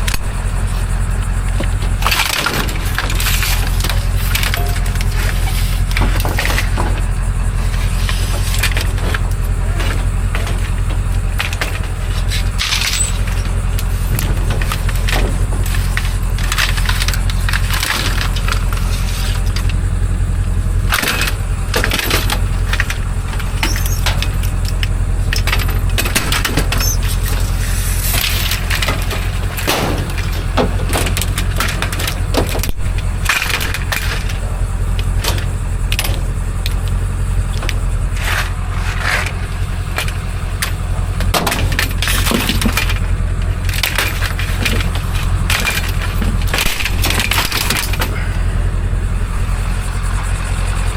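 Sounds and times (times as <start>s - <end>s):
scrap metal clanking: 0.0s - 49.6s
steady low rumble: 0.0s - 50.9s.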